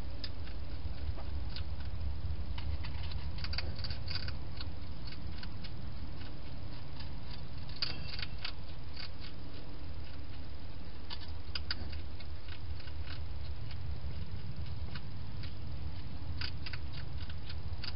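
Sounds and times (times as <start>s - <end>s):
hedgehog feeding clicks and crackles: 0.0s - 17.9s
steady low hum: 0.0s - 17.9s.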